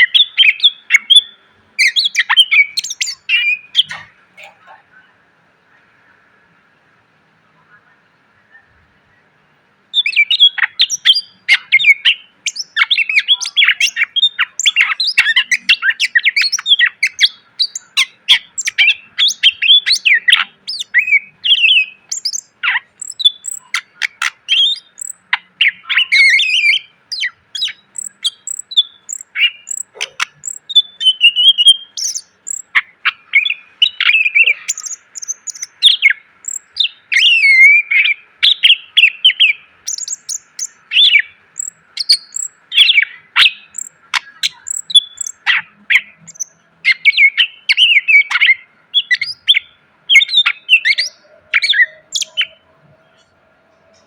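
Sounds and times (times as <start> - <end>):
bird singing fast trills: 0.0 - 4.0, 9.9 - 54.0.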